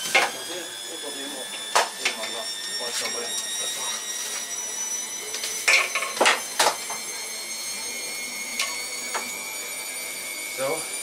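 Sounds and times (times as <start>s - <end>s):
washing machine whine: 0.0s - 11.0s.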